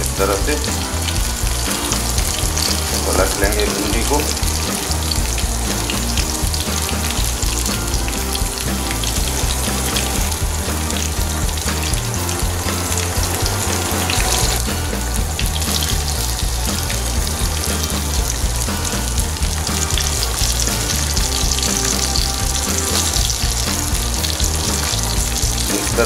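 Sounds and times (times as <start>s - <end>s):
okra frying in hot oil: 0.0s - 26.0s.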